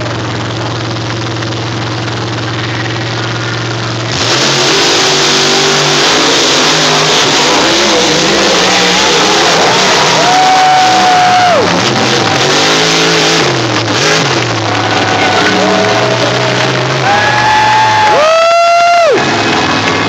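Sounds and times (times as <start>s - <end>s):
truck engines accelerating: 0.0s - 20.0s
truck engines idling: 0.0s - 20.0s.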